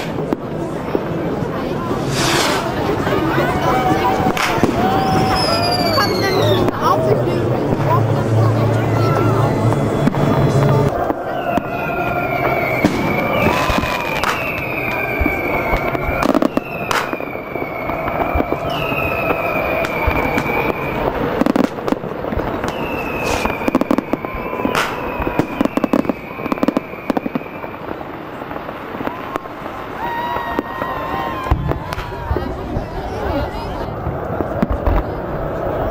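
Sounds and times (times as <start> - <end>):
firework bangs and crackling: 0.0 - 35.9
firework whistles: 1.8 - 35.9.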